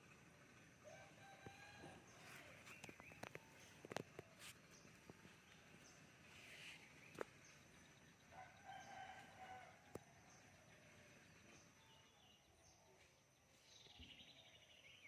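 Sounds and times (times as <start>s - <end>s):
faint chicken calls: 0.8s - 14.7s.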